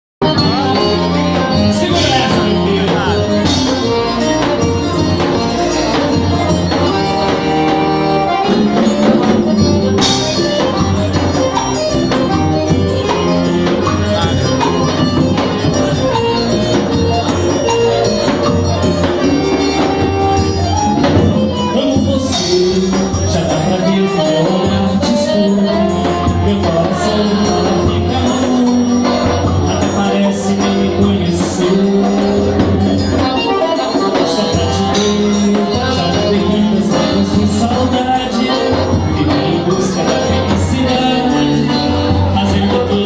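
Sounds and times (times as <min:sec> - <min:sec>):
live dance band music: 0:00.2 - 0:43.0.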